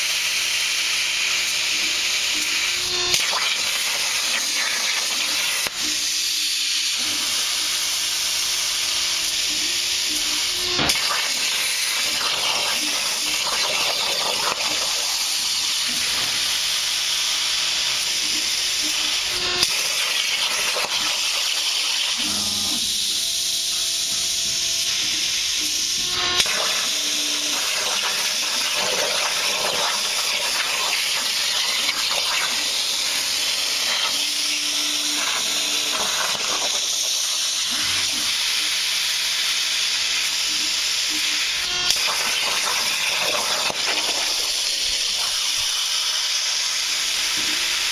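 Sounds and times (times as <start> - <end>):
plasma torch hissing: 0.0 - 47.9.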